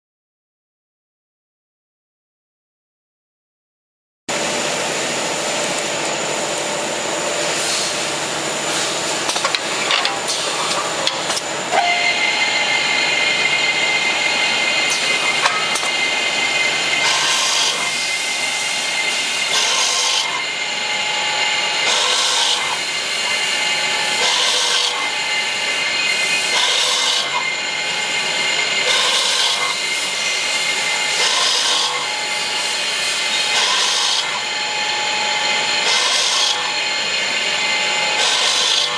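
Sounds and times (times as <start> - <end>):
drill spindle whine: 4.3 - 38.9
harsh drilling noise: 4.4 - 38.9.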